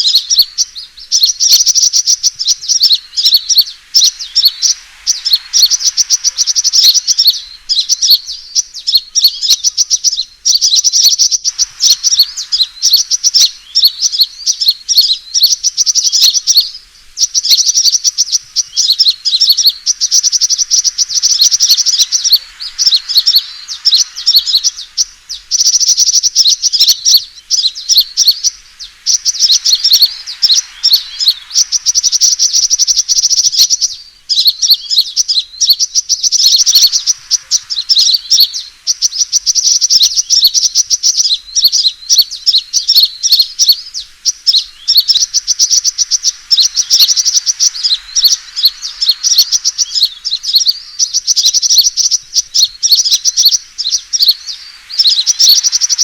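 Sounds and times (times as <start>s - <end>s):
bird chirping trills: 0.0s - 56.0s.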